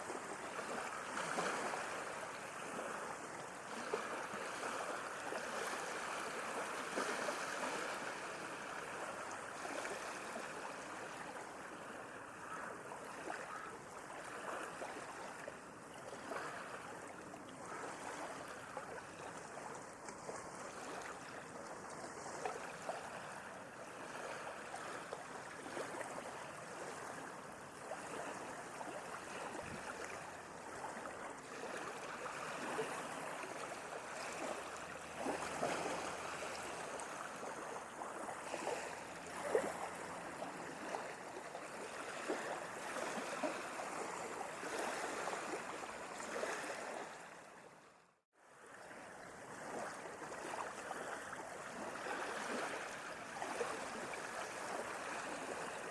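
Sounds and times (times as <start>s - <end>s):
small waves lapping: 0.0s - 55.9s.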